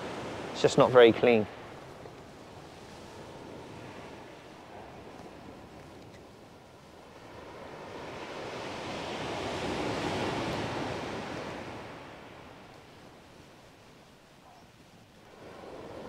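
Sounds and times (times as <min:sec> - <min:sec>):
wave on shingle beach: 0:00.0 - 0:16.0.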